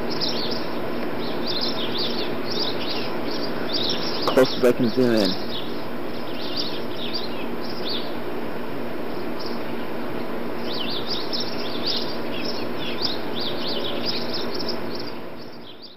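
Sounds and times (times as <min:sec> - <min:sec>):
faint hum: 0:00.0 - 0:15.9
small birds chirping: 0:00.0 - 0:15.9.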